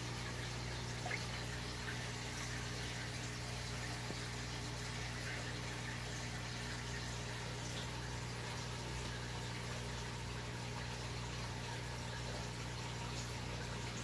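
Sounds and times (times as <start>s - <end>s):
aquarium filter humming: 0.0s - 14.0s
water trickling and bubbling: 0.0s - 14.0s.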